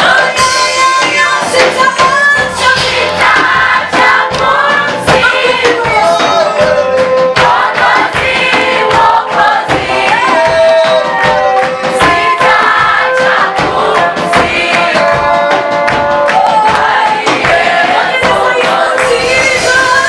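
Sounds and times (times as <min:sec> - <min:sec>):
choir singing: 0:00.0 - 0:15.7, 0:16.3 - 0:20.0
steady beat: 0:00.0 - 0:20.0.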